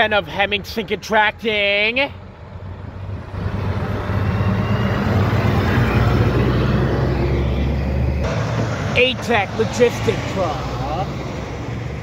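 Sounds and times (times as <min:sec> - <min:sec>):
truck diesel engine passing: 0:00.0 - 0:12.0.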